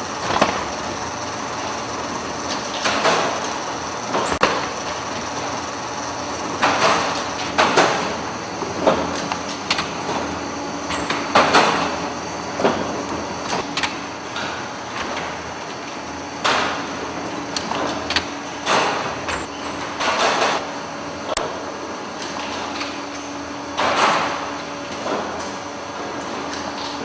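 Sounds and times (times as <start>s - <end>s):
printing press clacks and swishes: 0.0s - 27.0s
printing press hum: 0.0s - 27.0s.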